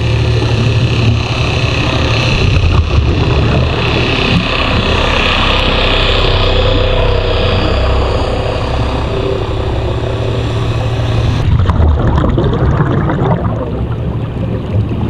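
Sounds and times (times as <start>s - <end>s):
underwater boat machinery drone: 0.0s - 15.0s.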